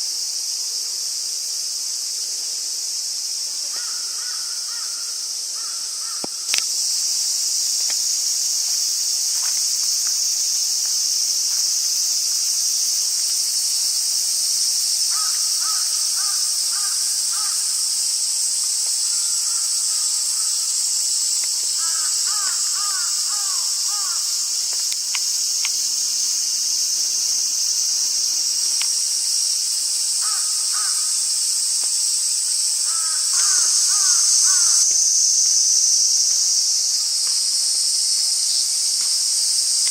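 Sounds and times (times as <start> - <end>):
insects shrilling: 0.0 - 39.9.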